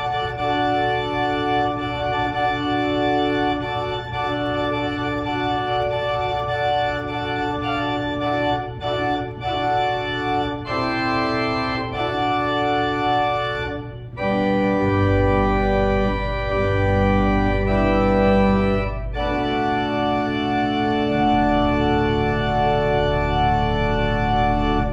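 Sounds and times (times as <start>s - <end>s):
deep bass organ notes: 0.0s - 24.9s
organ chords: 0.0s - 24.9s.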